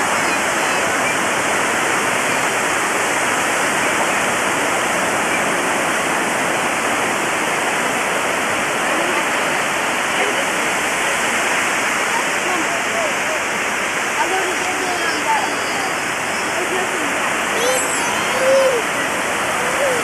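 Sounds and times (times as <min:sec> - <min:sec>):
ocean surf roar: 0:00.0 - 0:20.0.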